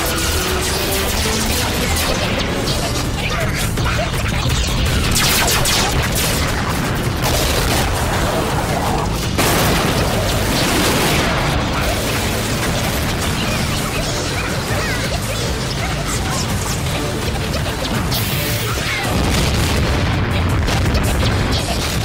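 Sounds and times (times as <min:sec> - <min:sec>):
explosions: 0:00.0 - 0:14.8, 0:19.0 - 0:22.0
action music: 0:00.0 - 0:22.0
laser gun blasts: 0:00.0 - 0:22.0.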